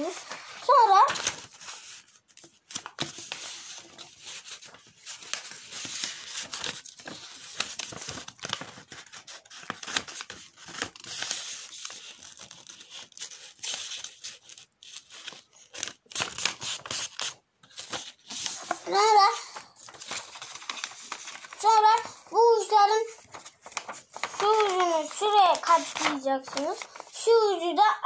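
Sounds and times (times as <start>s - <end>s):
paper rustling and crinkling: 0.0s - 28.0s.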